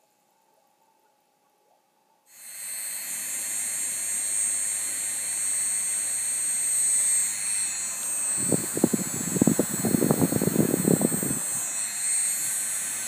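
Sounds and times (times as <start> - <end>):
electric fan motor whine: 2.3 - 13.0.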